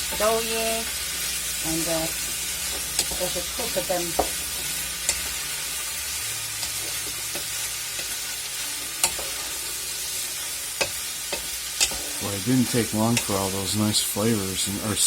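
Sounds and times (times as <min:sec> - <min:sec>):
vegetables and meat sizzling in a pan: 0:00.0 - 0:15.0.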